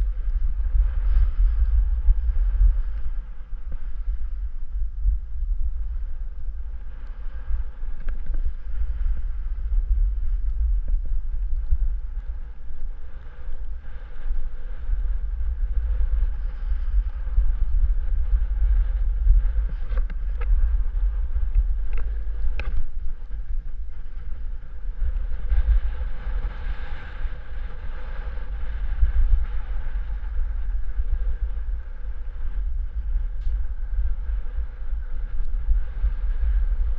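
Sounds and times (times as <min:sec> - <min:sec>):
wind buffeting microphone: 0:00.0 - 0:36.9.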